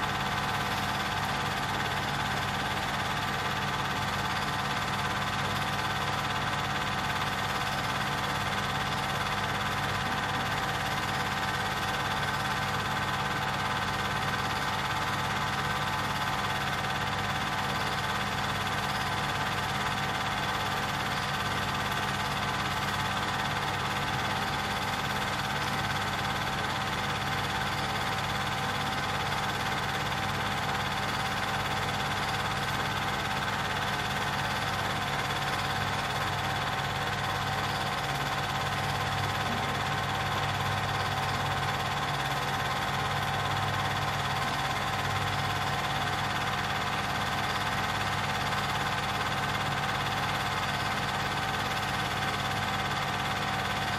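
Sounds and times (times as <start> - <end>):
film projector whirring: 0.0 - 53.9.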